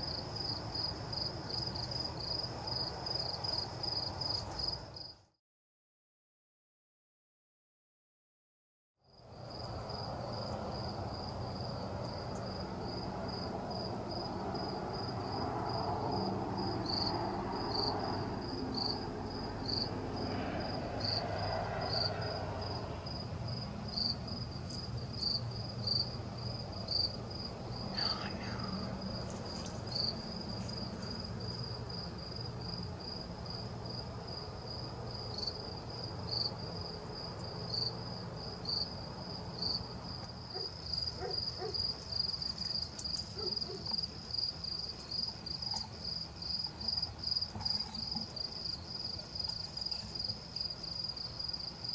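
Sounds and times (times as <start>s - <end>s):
cricket chirping: 0.0s - 5.2s, 9.1s - 51.9s.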